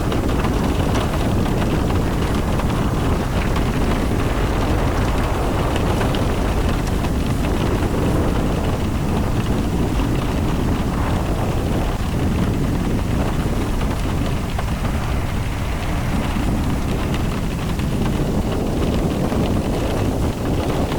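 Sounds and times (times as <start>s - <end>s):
car driving in rain: 0.0s - 20.9s
wind on microphone: 0.0s - 20.9s.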